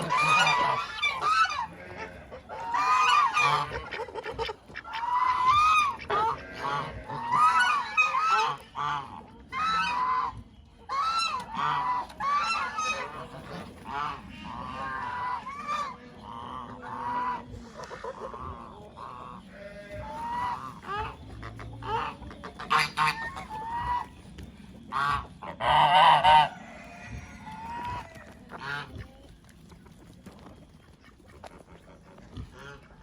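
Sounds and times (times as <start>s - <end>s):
geese honking: 0.0s - 30.1s, 30.7s - 33.0s.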